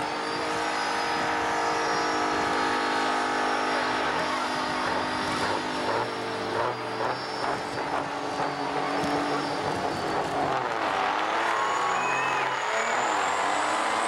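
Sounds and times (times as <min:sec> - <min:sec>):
diesel truck engines revving: 0:00.0 - 0:14.0.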